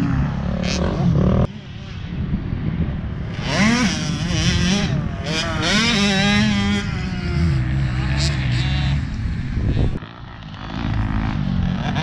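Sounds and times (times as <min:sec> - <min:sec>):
dirt bike engine revving: 0:00.0 - 0:02.2, 0:03.2 - 0:12.0.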